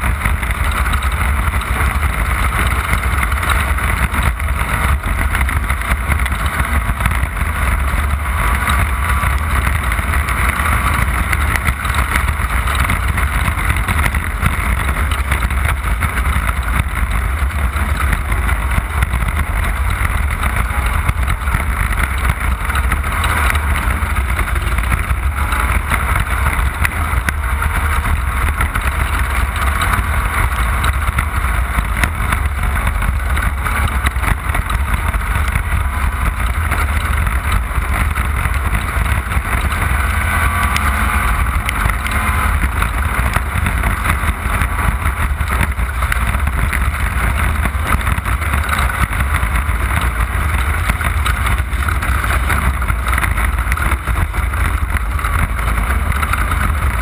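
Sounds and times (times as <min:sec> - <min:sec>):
loud race vehicle engine: 0:00.0 - 0:57.0.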